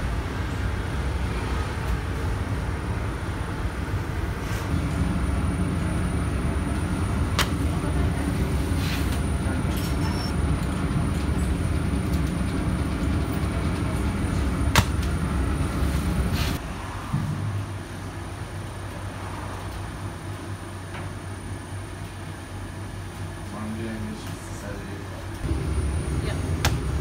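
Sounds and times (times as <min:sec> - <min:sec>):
machine low mechanical rumble: 0:00.2 - 0:27.0.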